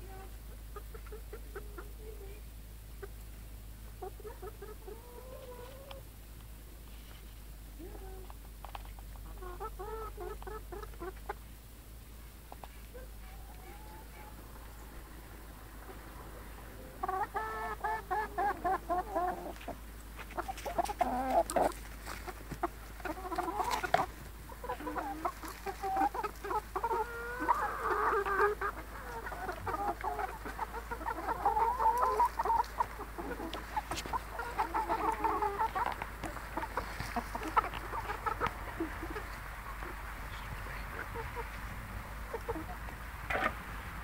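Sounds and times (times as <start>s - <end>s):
hens clucking: 0.0s - 44.0s.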